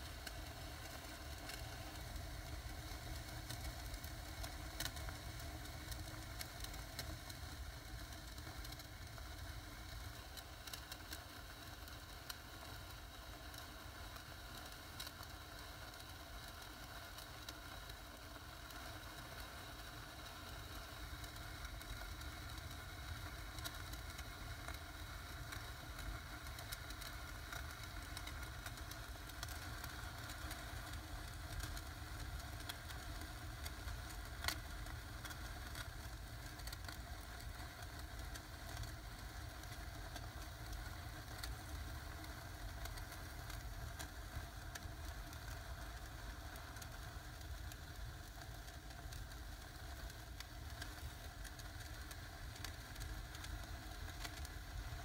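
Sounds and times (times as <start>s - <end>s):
sparks crackling: 0.0s - 55.0s.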